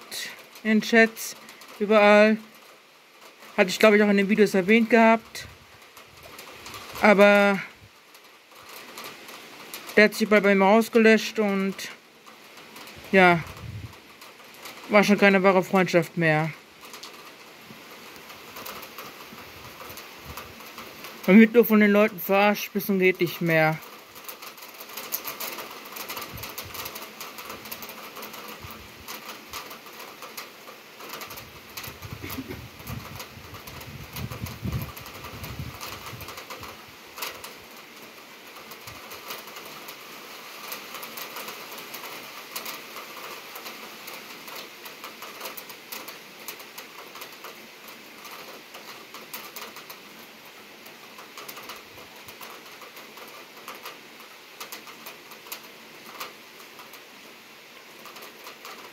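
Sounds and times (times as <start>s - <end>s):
heavy rain pattering: 0.0s - 58.9s.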